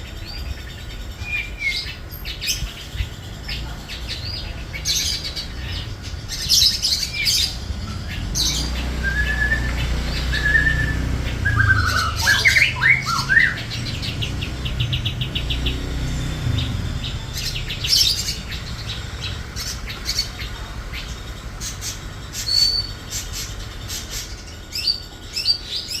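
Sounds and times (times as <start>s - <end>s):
bird singing varied song: 0.0s - 26.0s.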